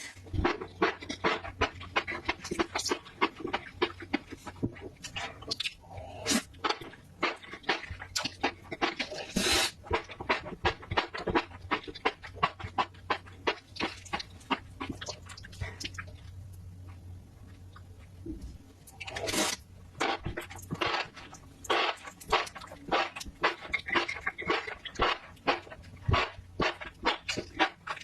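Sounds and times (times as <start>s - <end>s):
wet chewing: 0.0s - 28.0s.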